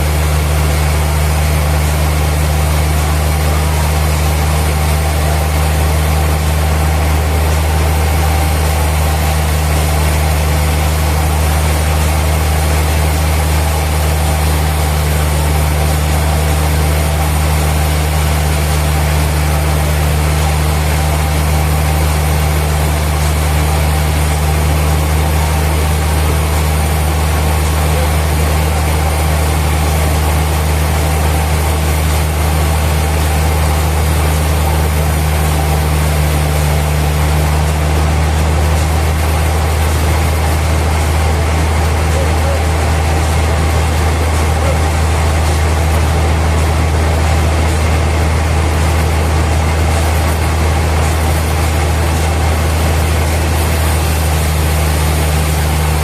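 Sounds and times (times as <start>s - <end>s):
sawmill machinery low hum: 0.0s - 56.0s.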